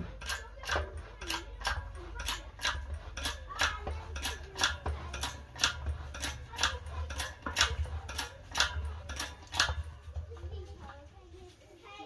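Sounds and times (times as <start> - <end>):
tool clicking: 0.0 - 10.2.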